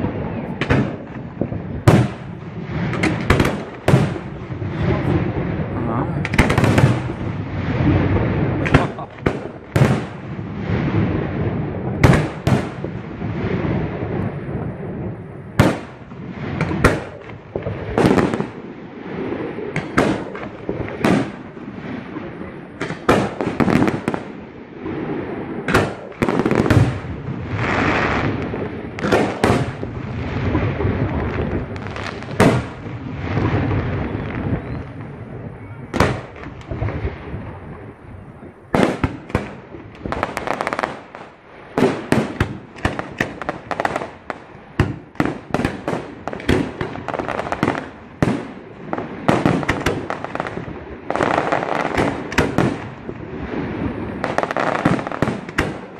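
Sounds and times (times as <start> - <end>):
fireworks bangs: 0.0 - 55.9
rumble and crackle of bursts: 0.0 - 55.9.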